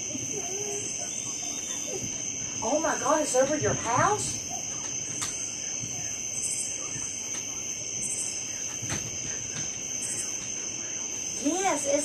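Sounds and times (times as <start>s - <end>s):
crickets and insects trilling: 0.0s - 12.0s
high pulsing insect chirp: 0.0s - 12.0s.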